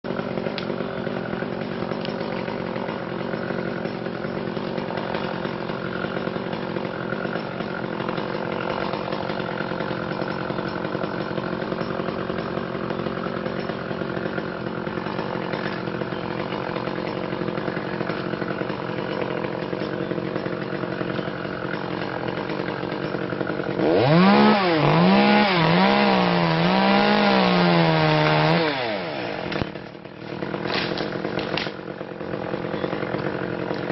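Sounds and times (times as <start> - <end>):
chainsaw engine running: 0.0 - 33.9.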